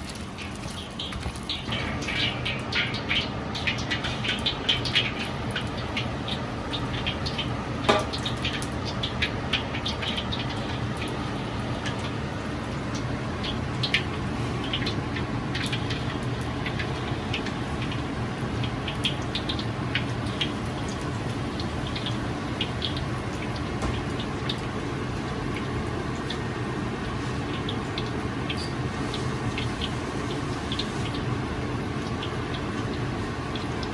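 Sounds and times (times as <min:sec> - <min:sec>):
frying pops and ticks: 0:00.0 - 0:33.9.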